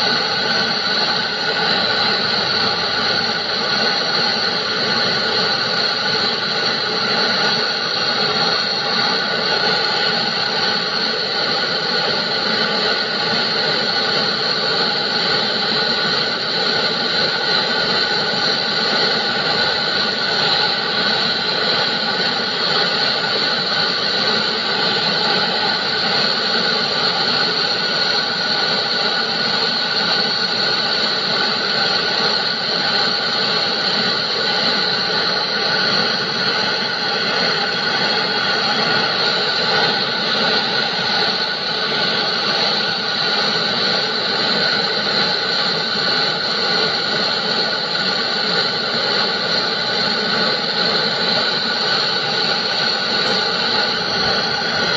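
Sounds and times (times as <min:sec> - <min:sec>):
torch flame hissing: 0:00.0 - 0:54.9.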